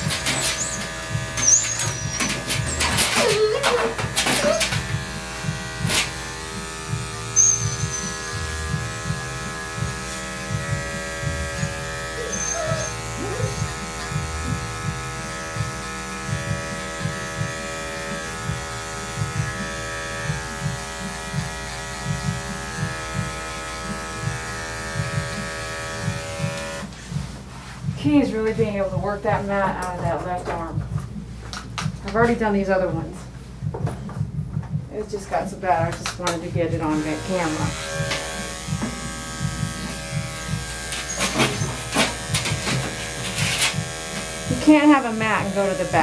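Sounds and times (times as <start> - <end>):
electric clippers humming: 0.0 - 27.3, 35.8 - 46.0.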